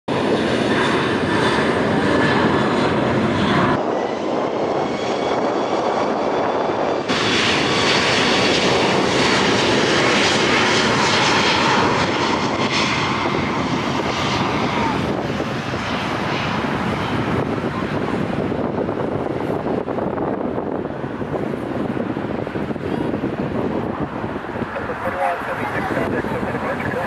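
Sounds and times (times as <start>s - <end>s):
jet engines roaring: 0.1s - 27.0s.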